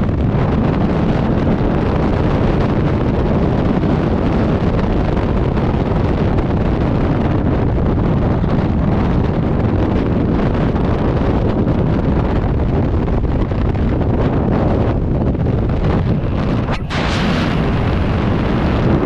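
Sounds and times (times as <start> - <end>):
wind blasting over microphone: 0.0 - 19.0.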